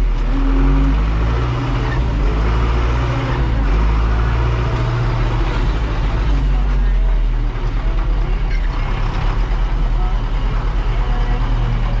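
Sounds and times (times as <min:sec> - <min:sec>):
road noise: 0:00.0 - 0:12.0
vehicle engine droning: 0:00.0 - 0:12.0.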